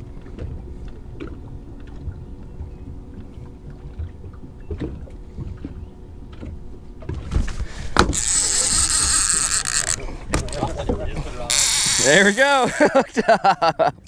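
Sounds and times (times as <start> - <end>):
boat engine rumble: 0.0 - 14.0.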